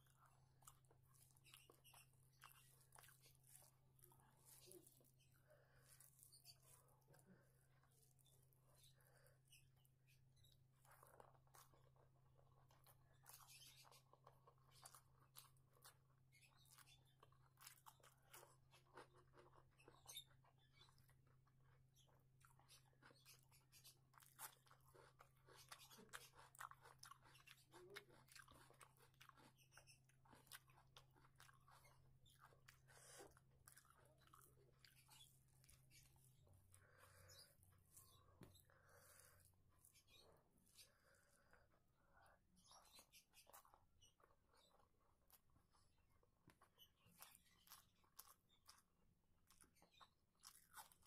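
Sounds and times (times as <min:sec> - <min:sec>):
chewing and crunching food: 0:00.0 - 0:51.0.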